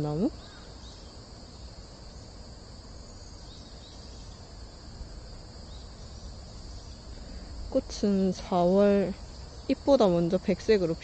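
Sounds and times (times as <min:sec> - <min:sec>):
insects trilling: 0:00.0 - 0:11.0
low background rumble: 0:00.0 - 0:11.0.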